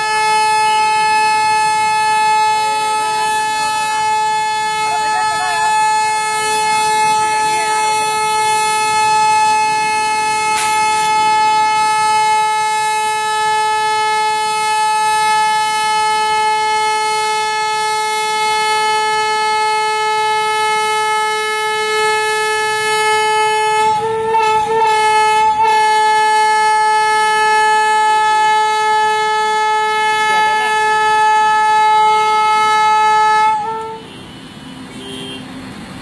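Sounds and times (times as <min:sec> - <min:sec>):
locomotive air horn: 0:00.0 - 0:35.6.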